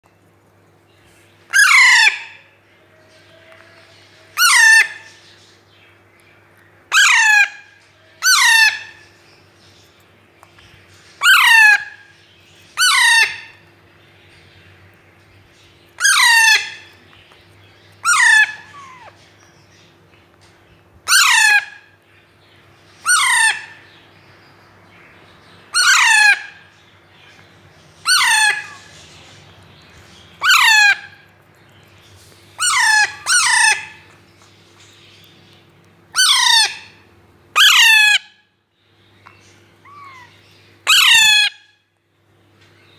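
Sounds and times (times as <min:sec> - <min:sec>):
parakeets calling harshly: 0:01.4 - 0:05.6, 0:06.7 - 0:09.8, 0:10.6 - 0:20.0, 0:21.0 - 0:41.9.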